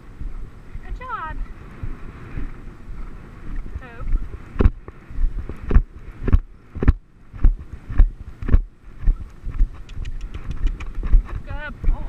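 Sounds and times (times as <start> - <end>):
horse hooves thudding on grass: 0.0 - 12.0
wind on microphone: 0.0 - 12.0.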